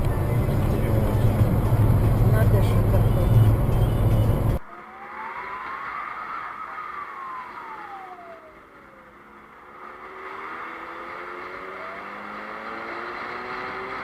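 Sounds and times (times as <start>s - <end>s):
car engine accelerating: 0.0s - 14.0s
road noise: 0.0s - 14.0s.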